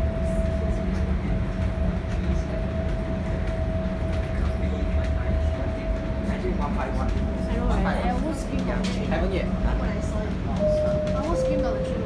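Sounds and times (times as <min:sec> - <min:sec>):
constant train whine: 0:00.0 - 0:12.0
train rumbling: 0:00.0 - 0:12.0.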